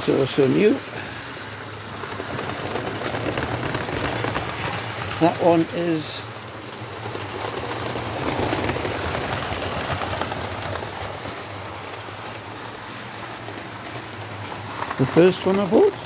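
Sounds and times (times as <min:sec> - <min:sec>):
model train wheels rattling: 0:00.0 - 0:16.0.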